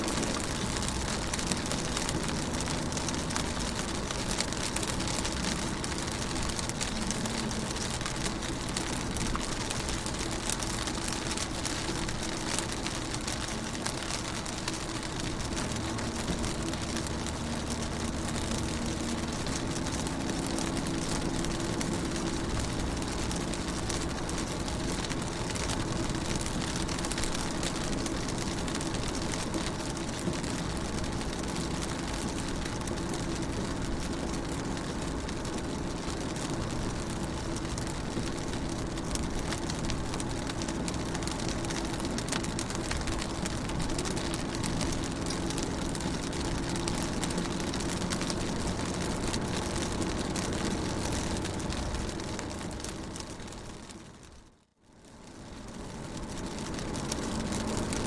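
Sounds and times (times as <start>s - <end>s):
rain on car windows: 0.0s - 58.0s.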